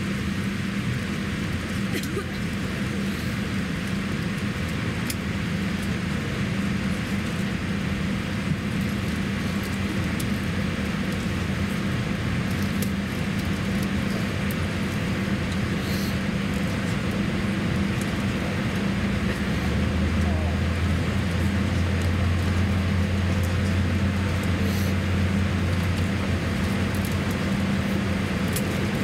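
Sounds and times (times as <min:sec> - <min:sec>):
cabin ventilation hum: 0:00.0 - 0:29.0.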